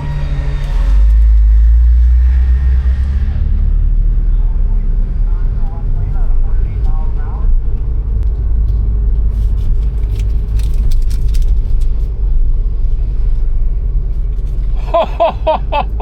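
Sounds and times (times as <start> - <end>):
car rumbling: 0.0 - 16.0.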